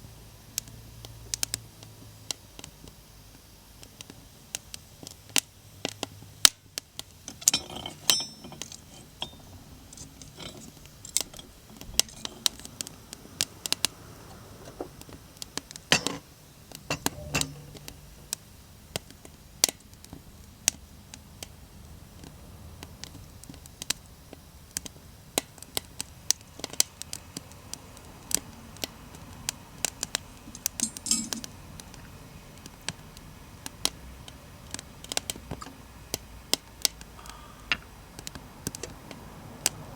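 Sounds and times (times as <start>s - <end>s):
wood stove fire crackling: 0.0s - 39.9s.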